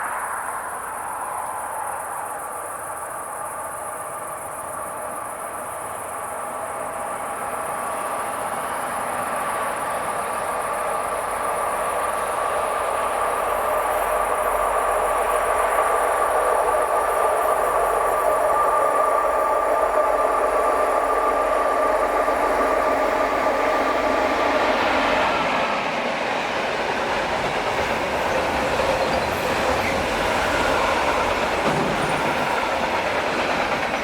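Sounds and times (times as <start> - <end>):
train approaching hum: 0.0 - 34.0.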